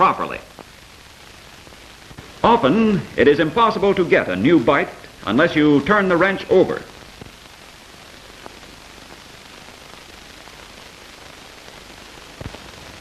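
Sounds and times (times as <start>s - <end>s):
steady hiss and static: 0.0s - 13.0s.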